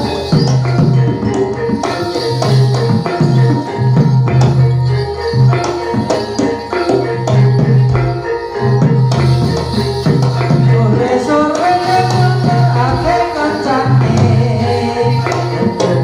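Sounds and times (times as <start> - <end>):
gamelan music: 0.0 - 16.0
hand drums: 0.0 - 16.0
struck metal percussion: 0.0 - 16.0.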